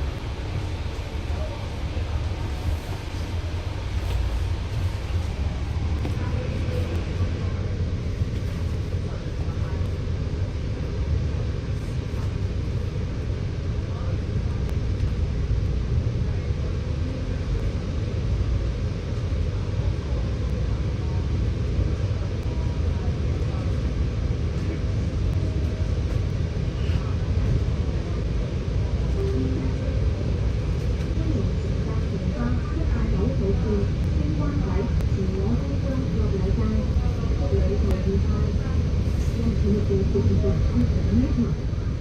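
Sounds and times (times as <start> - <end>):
bus engine rumbling: 0.0 - 42.0.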